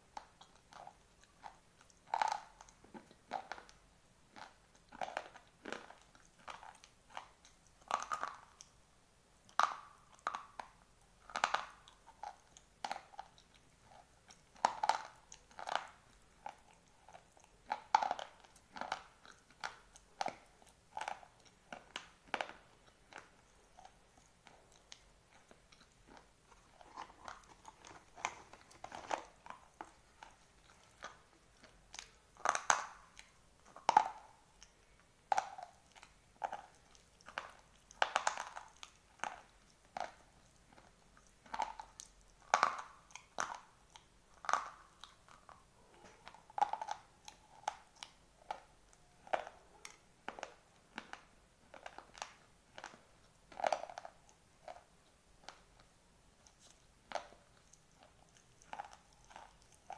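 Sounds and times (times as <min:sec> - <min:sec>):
slate pencils crunching in teeth: 0:00.1 - 0:08.7, 0:09.5 - 0:59.9.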